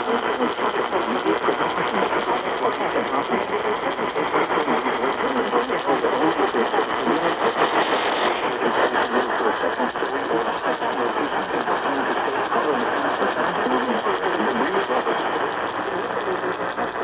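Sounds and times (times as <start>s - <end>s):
loud radio static: 0.0s - 17.0s.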